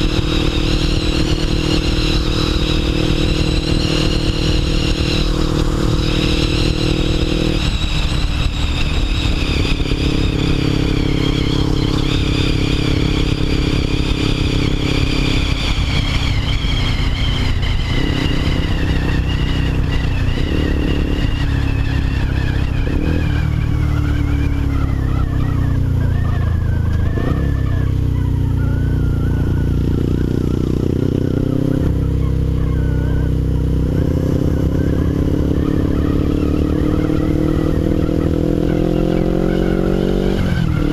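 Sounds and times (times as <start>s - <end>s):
high tone falling in pitch: 0.0s - 40.9s
motorcycle engine running loud: 0.0s - 40.9s.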